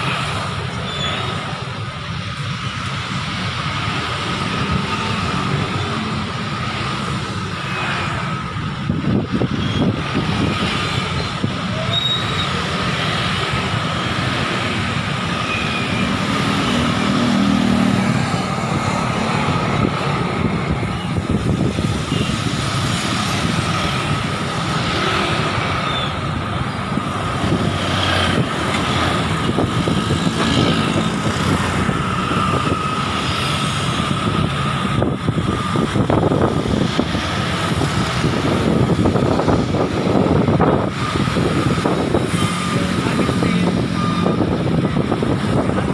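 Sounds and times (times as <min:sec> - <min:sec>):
motorcycle engines: 0:00.0 - 0:45.9
street traffic passing: 0:00.0 - 0:45.9.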